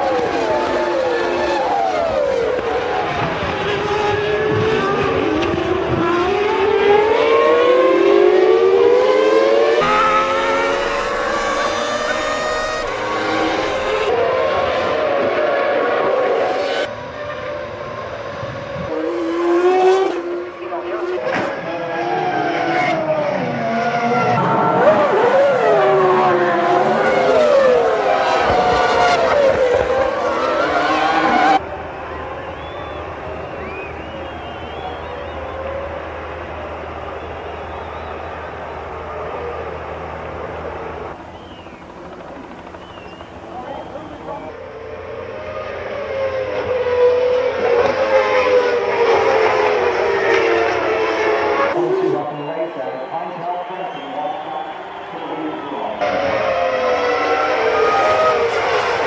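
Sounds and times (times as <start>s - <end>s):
racing car engines: 0.0s - 59.0s.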